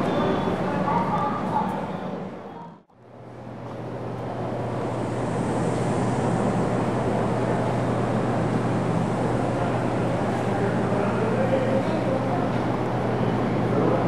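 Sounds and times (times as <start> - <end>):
rushing hall ambience: 0.0 - 14.0.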